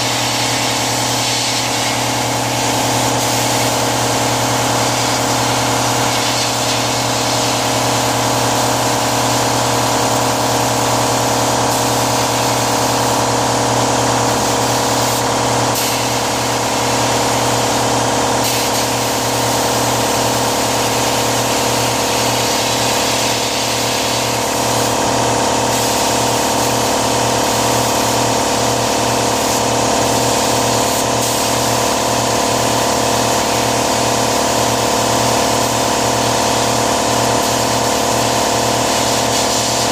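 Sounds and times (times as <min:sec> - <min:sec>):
machine motor pulsing hum: 0:00.0 - 0:39.9.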